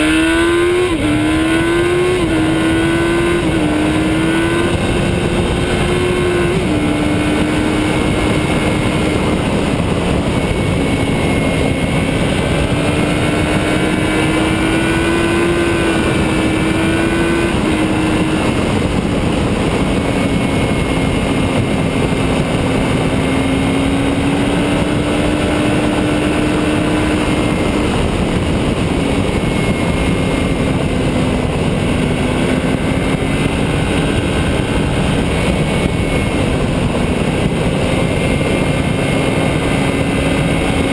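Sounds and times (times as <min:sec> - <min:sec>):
motorcycle engine cruising: 0:00.0 - 0:40.9
wind rush on microphone: 0:00.0 - 0:40.9.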